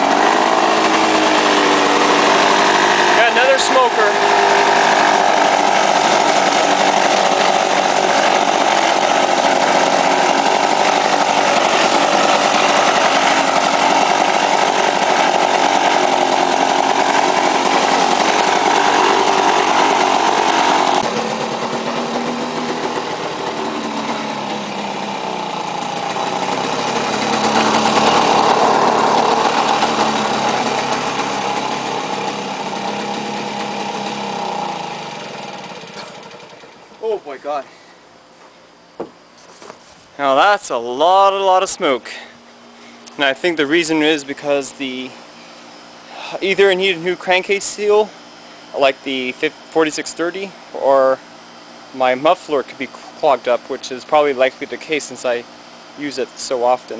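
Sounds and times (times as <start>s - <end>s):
lawn mower engine running: 0.0s - 38.0s, 39.3s - 56.9s.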